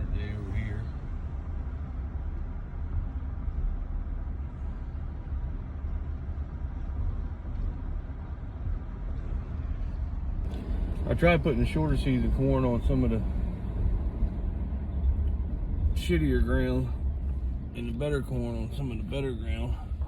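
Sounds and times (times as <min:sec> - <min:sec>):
vehicle rumbling along: 0:00.0 - 0:20.0.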